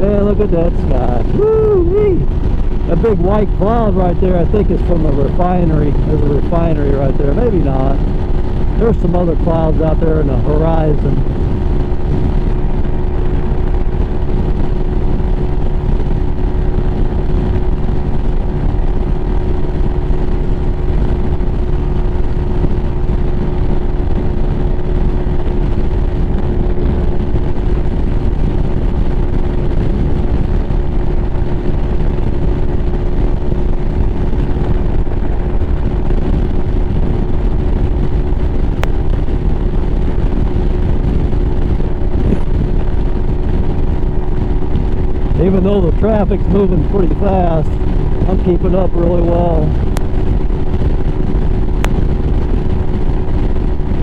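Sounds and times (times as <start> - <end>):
motorcycle engine cruising: 0.0 - 54.0
wind rumble on microphone: 0.0 - 54.0.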